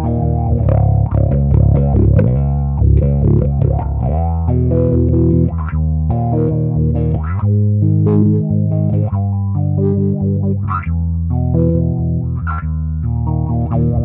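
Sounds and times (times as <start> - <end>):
bass guitar with auto-wah: 0.0 - 14.0.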